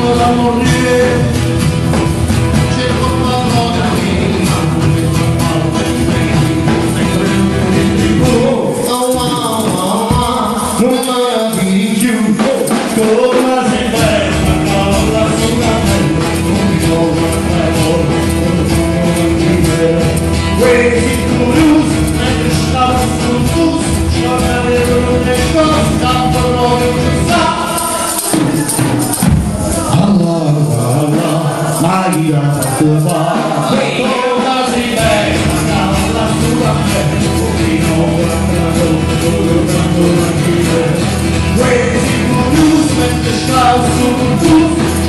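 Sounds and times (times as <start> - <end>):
live band playing: 0.0 - 45.0
man singing: 0.0 - 45.0.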